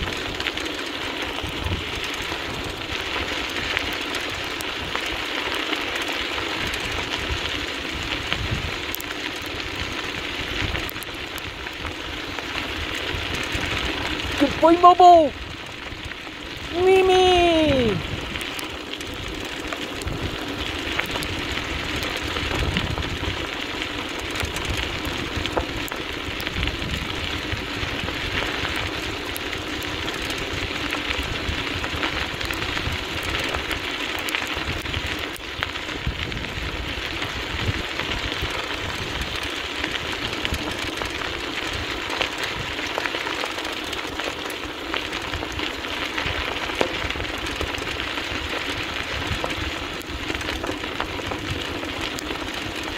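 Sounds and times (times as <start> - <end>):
wheels rolling over dirt trail: 0.0 - 52.9.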